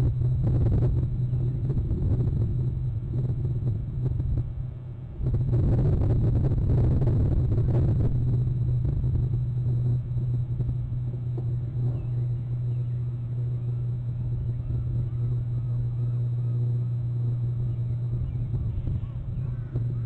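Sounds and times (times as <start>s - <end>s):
rush of outdoor noise: 0.0s - 20.0s
steady low hum: 0.0s - 20.0s.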